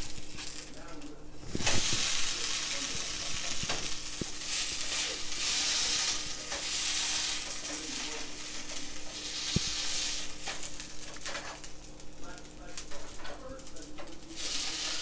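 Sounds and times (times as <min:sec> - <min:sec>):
hash browns sizzling in oil: 0:00.0 - 0:15.0.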